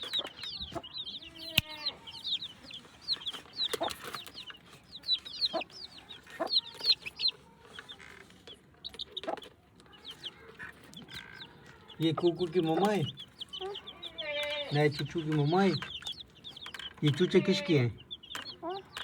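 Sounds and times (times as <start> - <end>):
chicks peeping: 0.0 - 19.0
hen clucking: 0.0 - 19.0.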